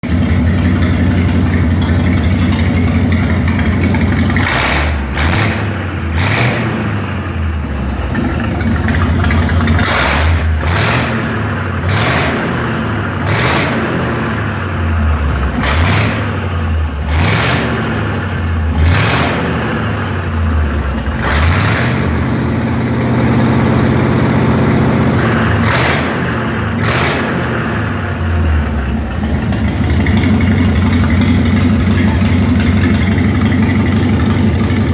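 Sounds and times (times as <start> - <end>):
engine labouring rhythmically: 0.0 - 34.9.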